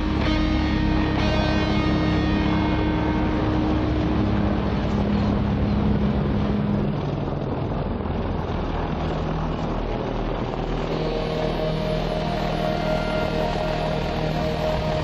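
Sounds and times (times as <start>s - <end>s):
helicopter rotor and engines: 0.0s - 15.0s.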